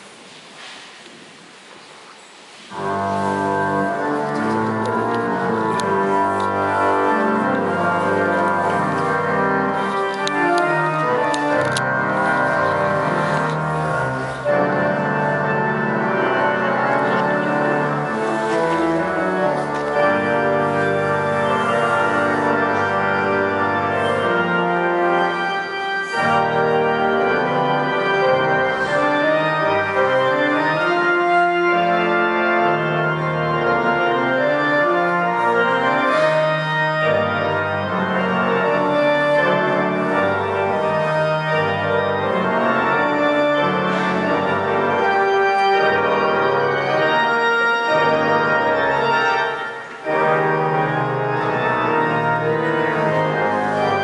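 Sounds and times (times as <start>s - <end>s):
organ playing chords: 2.7s - 54.0s.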